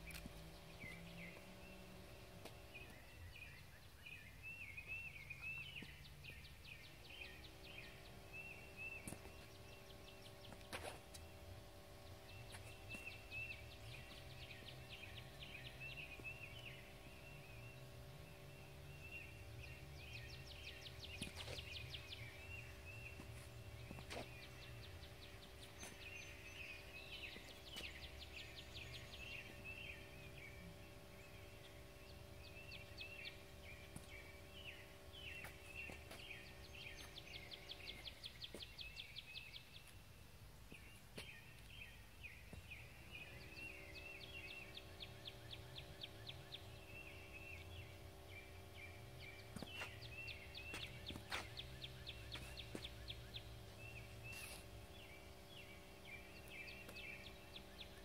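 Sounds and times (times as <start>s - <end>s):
mechanical hum: 0.0s - 58.0s
songbirds chirping: 0.0s - 58.0s.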